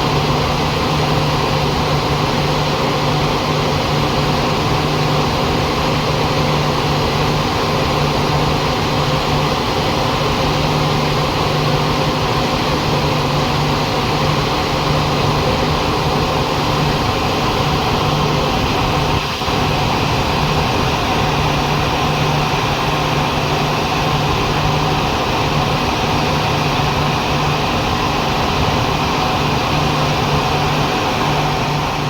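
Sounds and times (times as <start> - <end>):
diesel generator running: 0.0 - 32.0.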